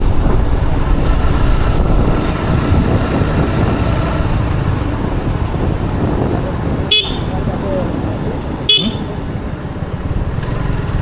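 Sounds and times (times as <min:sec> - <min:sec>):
motorcycle engine and road rumble: 0:00.0 - 0:11.0.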